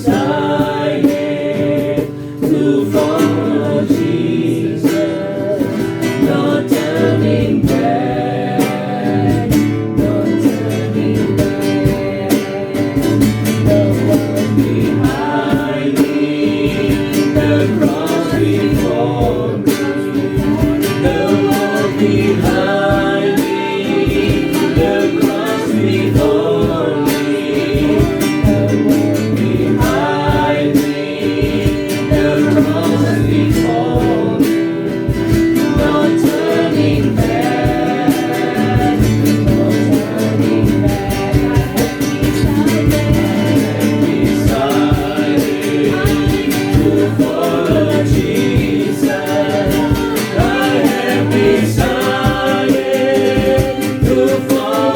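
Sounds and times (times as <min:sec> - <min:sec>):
guitar accompaniment: 0:00.0 - 0:54.9
voices singing: 0:00.0 - 0:54.9.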